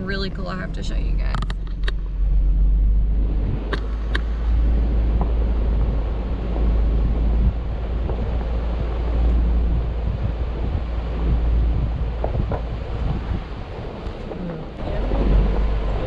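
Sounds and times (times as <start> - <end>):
vehicle road and engine rumble: 0.0 - 16.0.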